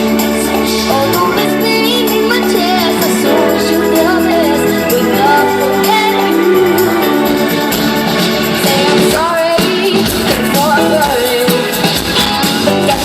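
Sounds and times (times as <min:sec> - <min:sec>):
girl singing lead: 0:00.0 - 0:13.0
pop band playing live: 0:00.0 - 0:13.0.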